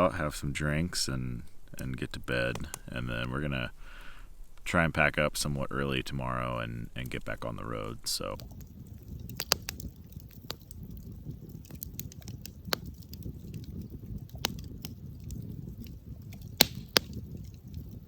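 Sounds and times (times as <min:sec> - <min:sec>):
campfire crackling: 0:00.0 - 0:18.0
low steady rumble: 0:00.0 - 0:18.0.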